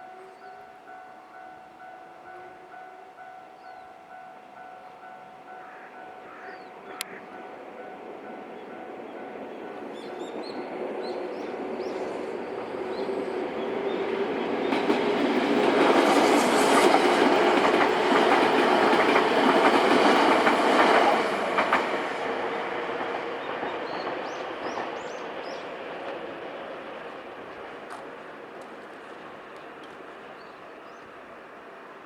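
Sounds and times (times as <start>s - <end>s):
electric train passing: 0.0s - 32.0s.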